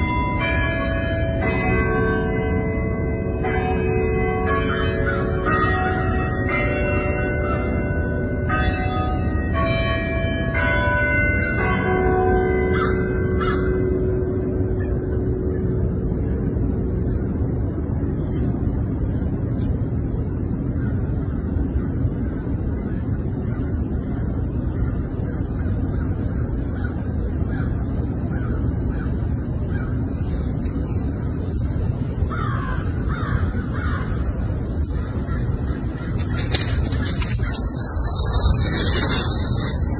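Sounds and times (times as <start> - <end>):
low rumbling background noise: 0.0 - 39.9.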